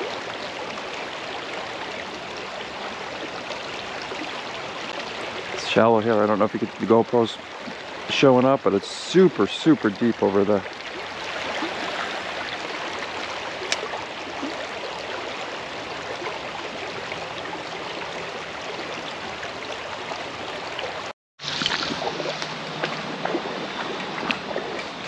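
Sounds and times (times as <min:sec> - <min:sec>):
creek water over stones: 0:00.0 - 0:25.0.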